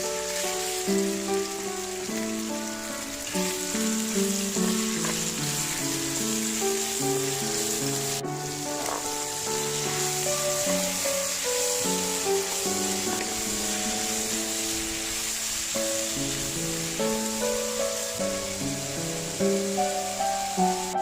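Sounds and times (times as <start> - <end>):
background music of held notes: 0.0 - 21.0
food sizzling in a pan: 0.0 - 21.0.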